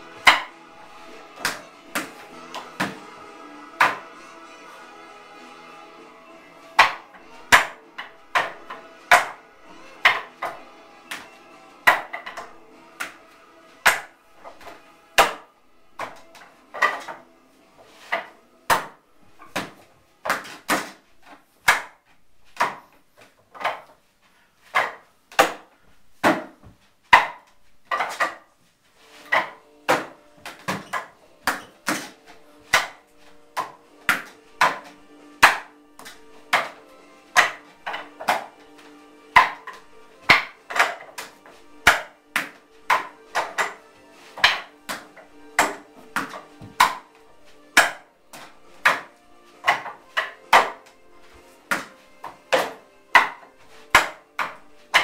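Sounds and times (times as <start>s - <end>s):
hands striking wooden dummy: 0.0s - 4.2s, 6.6s - 24.0s, 24.7s - 28.5s, 29.2s - 55.0s.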